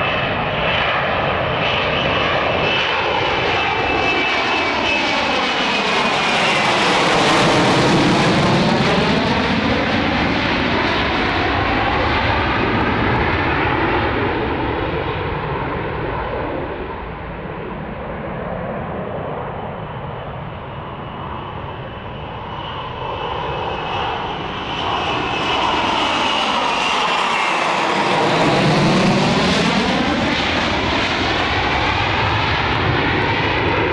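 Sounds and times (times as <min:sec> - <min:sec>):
jet engine with turbine whine: 0:00.0 - 0:33.9.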